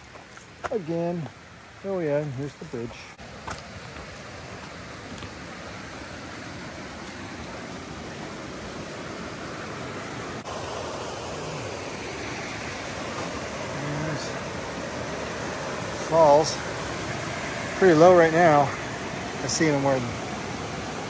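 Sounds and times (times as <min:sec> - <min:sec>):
creek water rushing over rocks: 0:00.0 - 0:21.0.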